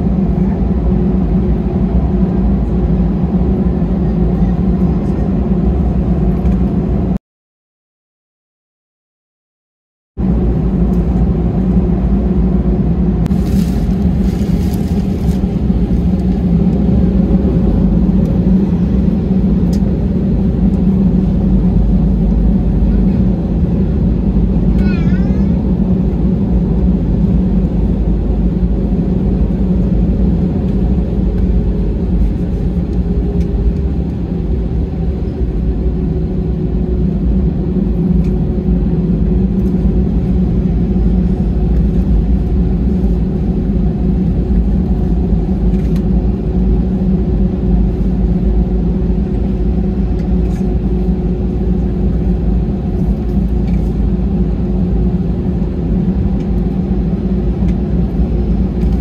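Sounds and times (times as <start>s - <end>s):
jet engine cabin rumble: 0.0s - 7.2s, 10.2s - 59.0s.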